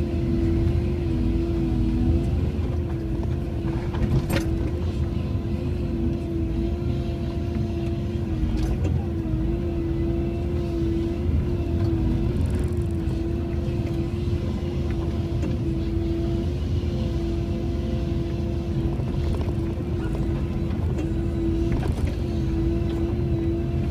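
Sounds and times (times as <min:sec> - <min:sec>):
engine whining tone: 0:00.0 - 0:23.9
excavator diesel engine running: 0:00.0 - 0:23.9.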